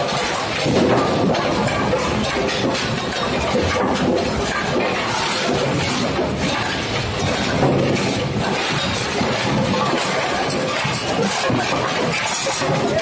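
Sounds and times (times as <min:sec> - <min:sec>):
bowling pins clattering: 0:00.0 - 0:13.0
pinsetter machinery running: 0:00.0 - 0:13.0.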